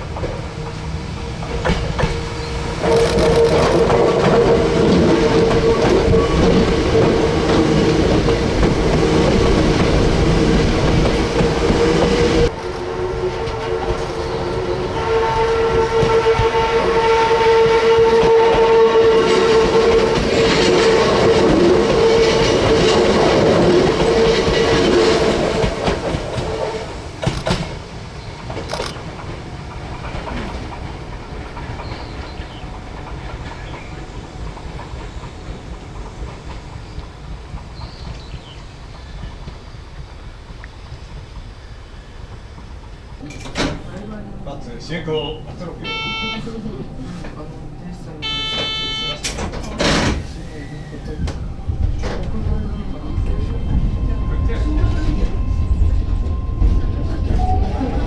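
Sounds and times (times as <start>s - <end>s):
electric train rumbling past: 0.0s - 58.0s
steady train whine: 0.0s - 58.0s.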